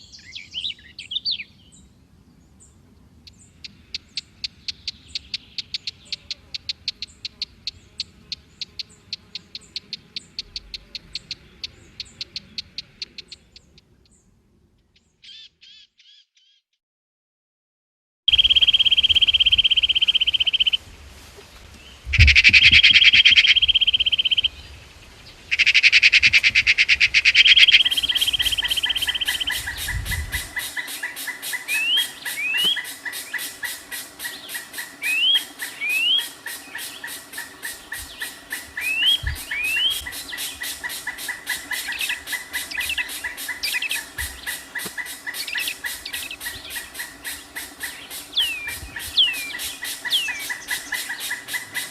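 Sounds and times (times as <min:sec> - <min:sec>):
bird buzzing trills: 0:03.3 - 0:14.2, 0:18.3 - 0:20.8, 0:22.1 - 0:51.9.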